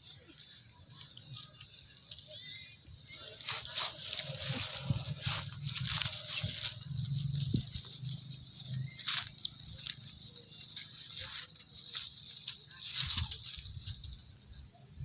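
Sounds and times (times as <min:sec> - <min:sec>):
rustling: 0:00.0 - 0:15.0
monkeys squeaking: 0:01.3 - 0:13.8.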